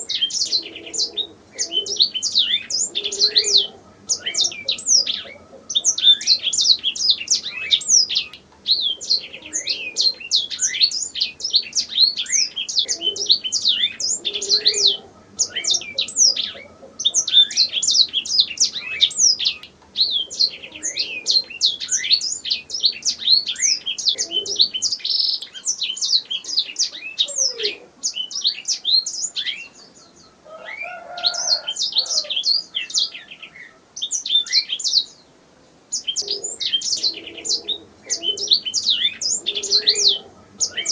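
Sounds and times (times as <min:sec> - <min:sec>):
canary singing trills: 0:00.0 - 0:35.3, 0:35.9 - 0:40.9.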